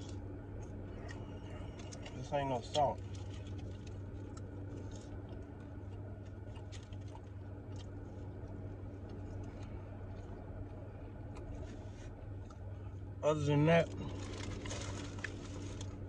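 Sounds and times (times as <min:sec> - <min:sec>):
person chewing fries: 0:00.0 - 0:13.2, 0:13.8 - 0:16.0
steady low hum: 0:00.0 - 0:16.0.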